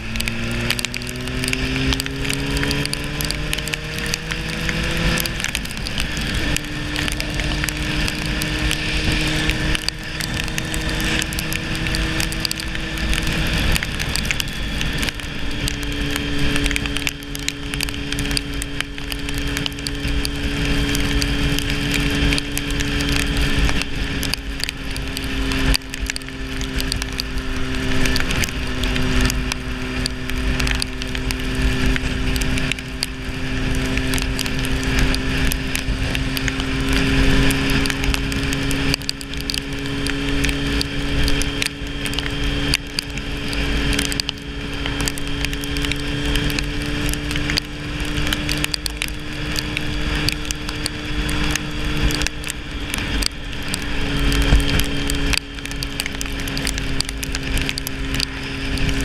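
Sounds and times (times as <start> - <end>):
crackles: 0.0 - 59.0
motorcycle engine cruising: 0.0 - 59.0
wind rush on microphone: 0.0 - 59.0.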